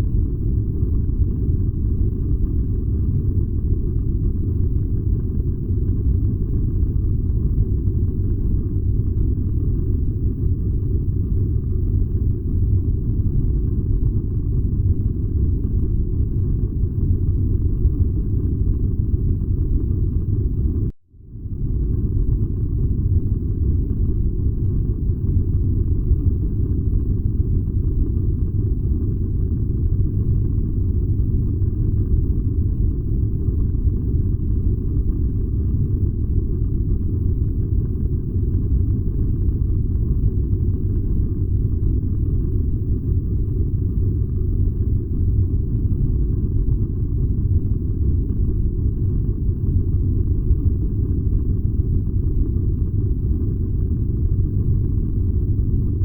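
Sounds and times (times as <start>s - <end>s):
furnace fire rumbling: 0.1s - 56.0s.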